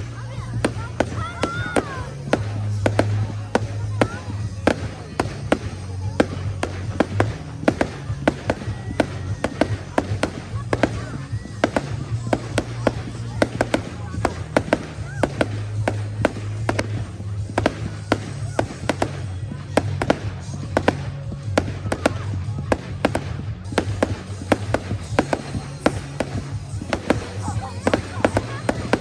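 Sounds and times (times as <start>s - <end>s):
background music: 0.0s - 29.0s
fireworks banging: 0.0s - 29.0s
voices: 0.0s - 29.0s.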